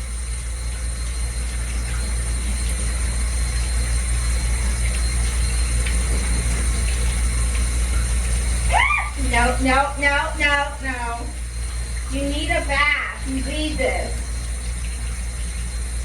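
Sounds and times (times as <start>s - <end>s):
water running from tap: 0.0s - 16.0s.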